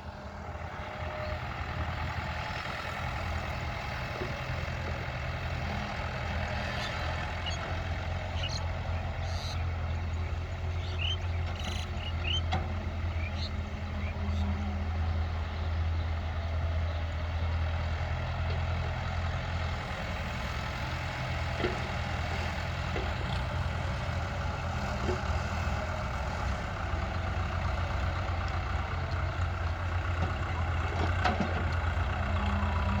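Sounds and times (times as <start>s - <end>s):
tractor engine humming: 0.0s - 33.0s.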